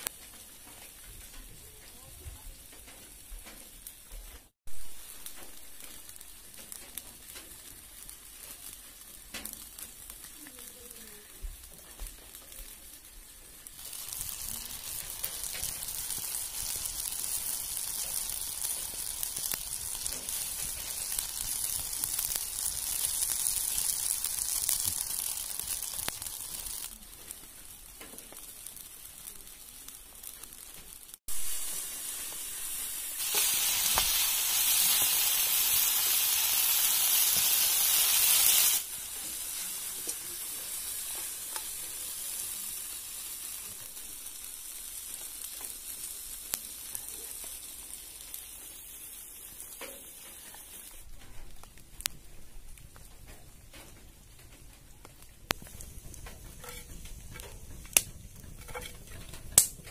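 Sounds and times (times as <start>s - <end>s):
food sizzling in oil: 0.0s - 52.1s, 54.3s - 59.9s
faint crackles: 0.0s - 59.9s.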